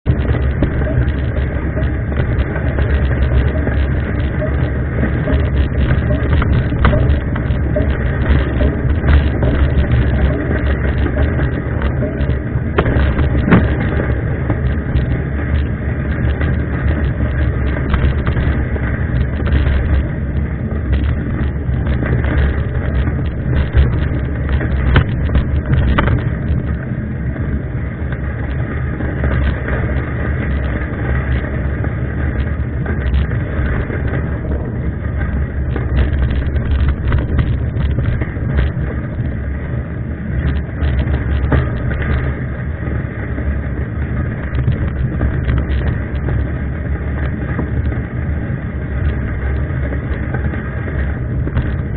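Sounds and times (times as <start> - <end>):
bike clicks and rattles: 0.0 - 51.9
wind rumbling on microphone: 0.0 - 51.9.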